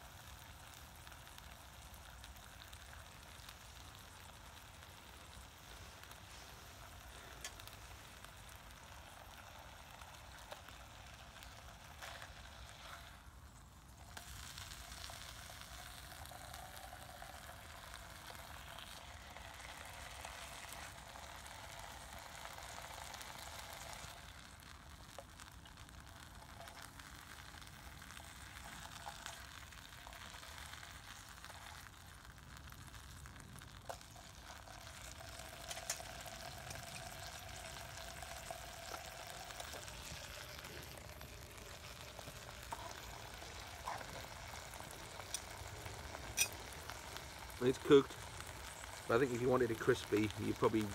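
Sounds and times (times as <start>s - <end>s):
bacon sizzling in a pan: 0.0s - 50.9s.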